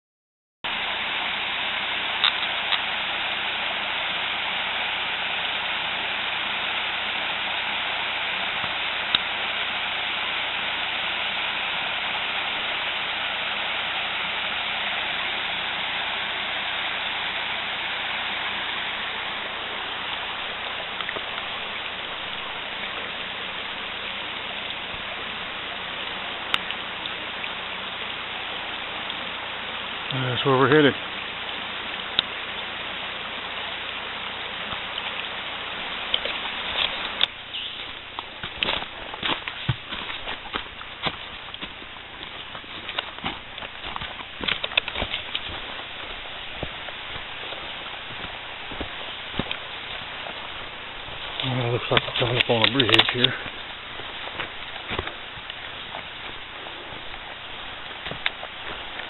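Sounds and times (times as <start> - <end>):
water rushing over rocks: 0.6 - 59.0.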